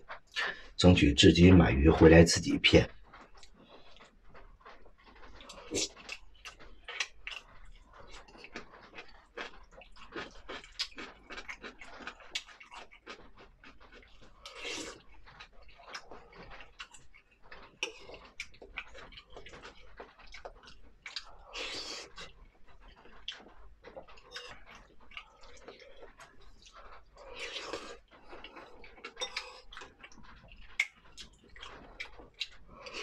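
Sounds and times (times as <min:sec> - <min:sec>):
mouth smacks and chewing: 0:02.9 - 0:33.0.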